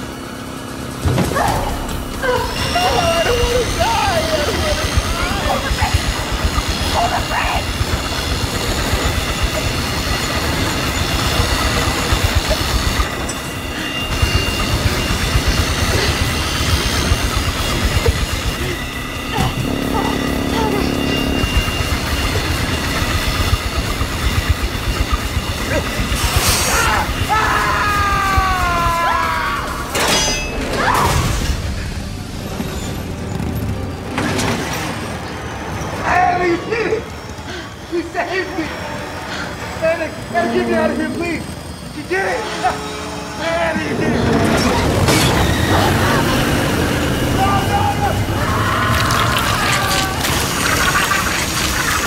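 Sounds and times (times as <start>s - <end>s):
spinning blade machine rumbling: 0.0s - 52.0s
tense orchestral score: 0.0s - 52.0s.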